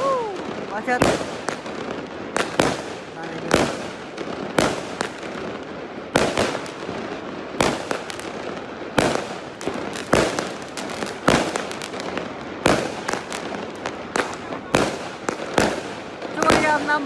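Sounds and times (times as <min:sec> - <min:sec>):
crackle of firework explosions: 0:00.0 - 0:17.0
loud firework bangs: 0:00.0 - 0:17.0.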